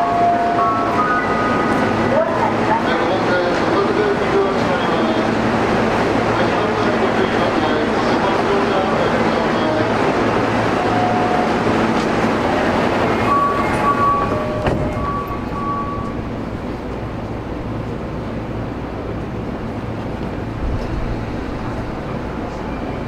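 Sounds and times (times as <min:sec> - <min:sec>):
standing train car hum: 0:00.0 - 0:23.0
subway train running noise: 0:00.0 - 0:23.0.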